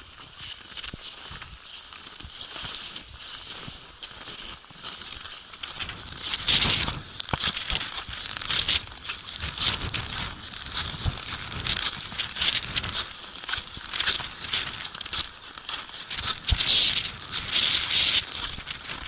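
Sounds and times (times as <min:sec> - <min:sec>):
wind-driven snow against microphone: 0:00.0 - 0:19.0.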